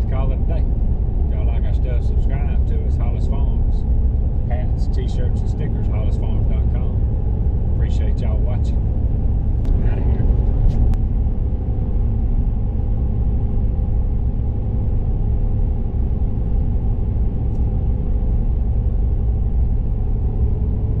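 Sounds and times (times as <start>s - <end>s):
vehicle road noise rumble: 0.0s - 21.0s.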